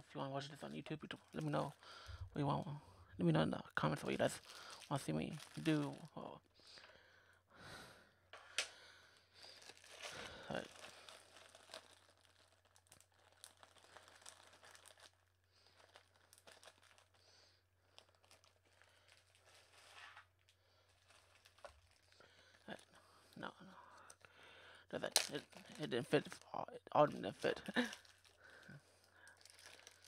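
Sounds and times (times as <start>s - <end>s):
plastic bag and wrappers crinkling: 0.1s - 2.8s, 3.7s - 6.9s, 8.5s - 30.0s.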